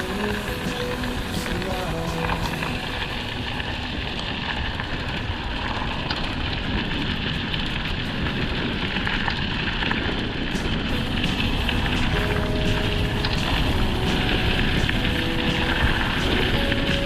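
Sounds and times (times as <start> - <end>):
bike tyres on dirt trail: 0.0 - 17.0
gravel clicks: 0.0 - 17.0
wind buffeting microphone: 0.0 - 17.0.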